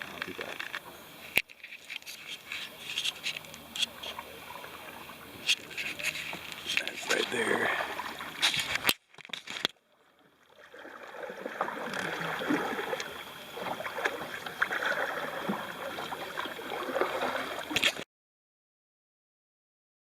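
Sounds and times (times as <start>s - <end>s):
paddle strokes: 0.0s - 18.0s
water splashing and lapping: 0.0s - 18.0s.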